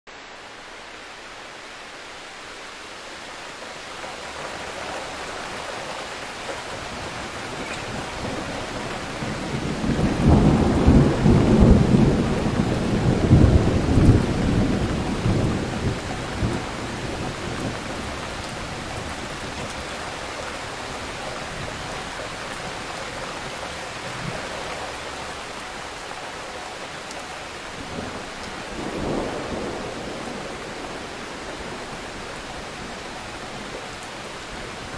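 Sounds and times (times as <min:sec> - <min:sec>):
wind and rain rushing: 0:00.1 - 0:34.9.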